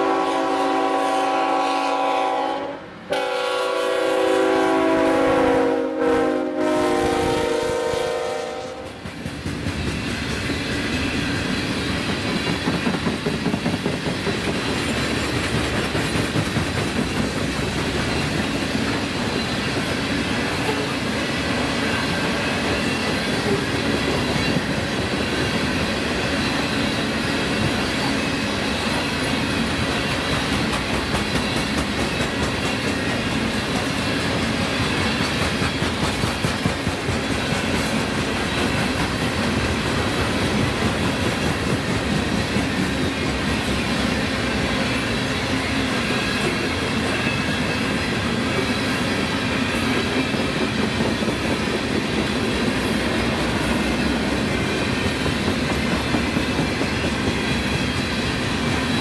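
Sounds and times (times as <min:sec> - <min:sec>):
train wheels clattering over rails: 0:08.8 - 0:59.0.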